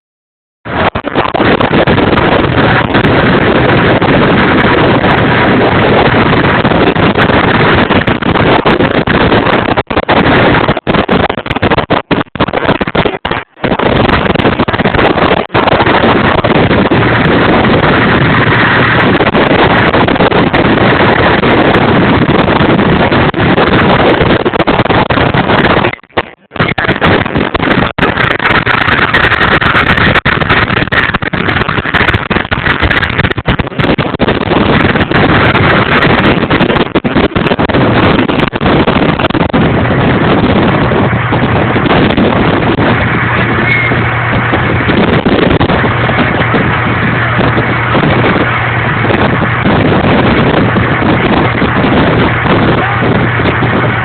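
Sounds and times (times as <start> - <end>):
wind buffeting microphone: 0.6 - 54.0
vehicle driving off-road: 0.7 - 54.0.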